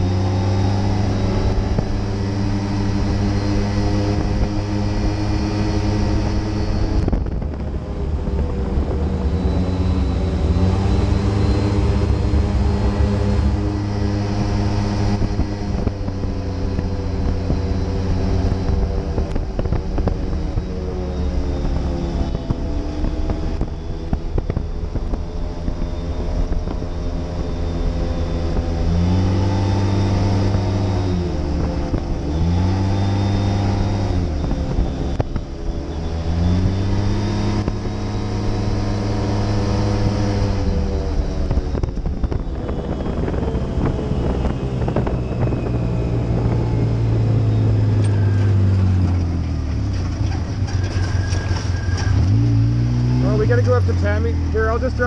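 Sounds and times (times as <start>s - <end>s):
utility vehicle engine revving: 0.0s - 55.0s
wind and road noise: 0.0s - 55.0s.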